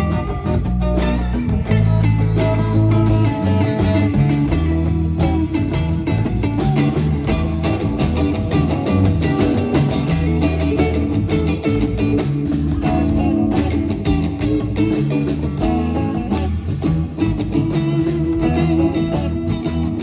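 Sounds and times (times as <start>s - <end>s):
electric guitar: 0.0s - 20.0s
live blues-rock band: 0.0s - 20.0s.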